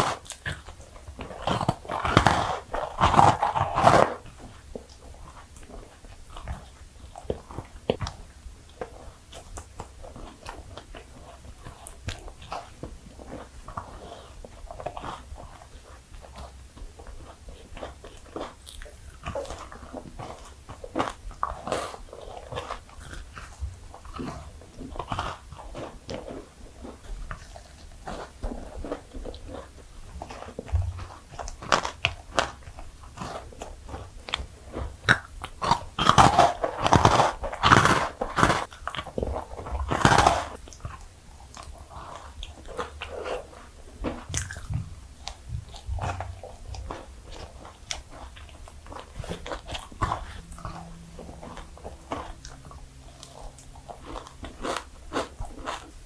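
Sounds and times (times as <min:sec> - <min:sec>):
person chewing sweets: 0:00.0 - 0:56.0.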